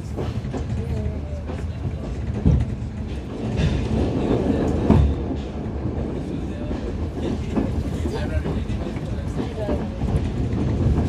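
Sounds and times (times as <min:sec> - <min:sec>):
train rumbling along track: 0:00.0 - 0:11.0
train wheels knocking: 0:00.0 - 0:11.0.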